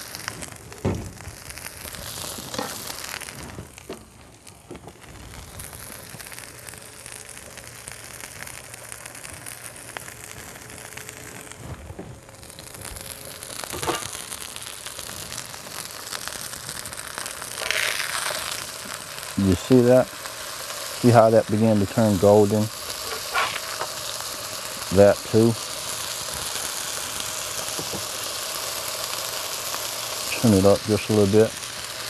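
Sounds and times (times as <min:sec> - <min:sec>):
chicken sizzling on a griddle: 0:00.0 - 0:32.0.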